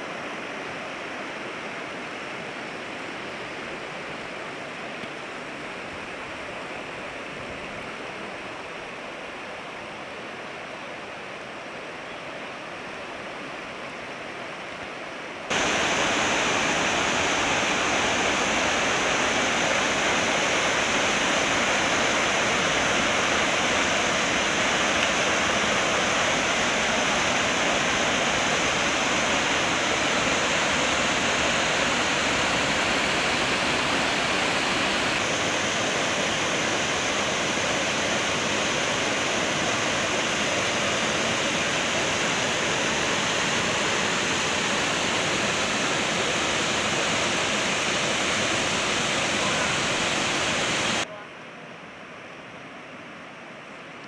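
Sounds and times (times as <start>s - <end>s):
waterfall roaring: 0.0s - 51.1s.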